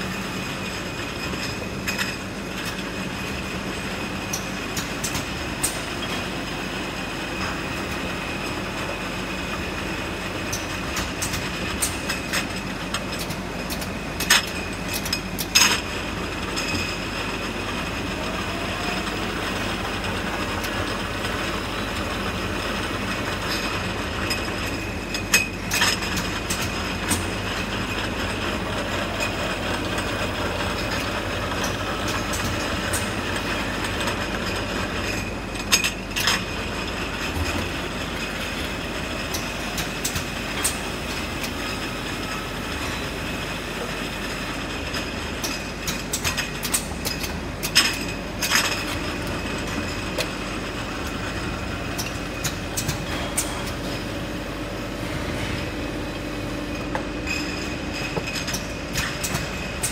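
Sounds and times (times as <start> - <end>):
filling machine hum and whine: 0.0 - 59.9.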